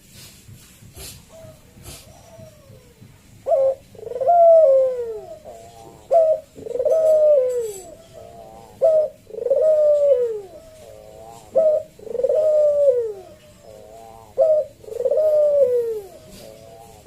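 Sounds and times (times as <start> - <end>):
dove cooing: 1.0 - 17.0.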